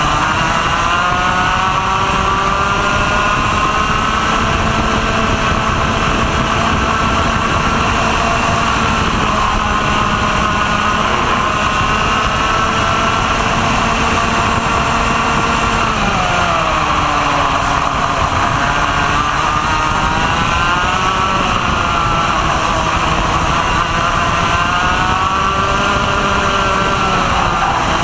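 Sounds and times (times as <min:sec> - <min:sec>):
kart engine running hard: 0:00.0 - 0:28.0.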